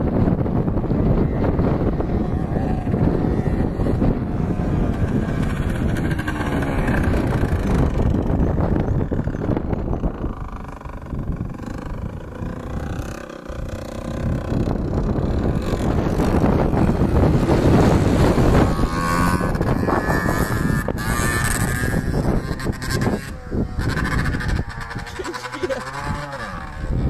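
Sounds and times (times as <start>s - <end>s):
dirt bike engine: 0.0s - 27.0s
wind on microphone: 0.0s - 27.0s.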